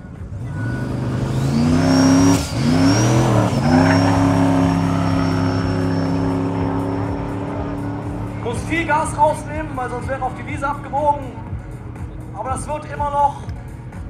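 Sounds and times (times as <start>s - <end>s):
dragster engine accelerating: 0.0s - 12.2s.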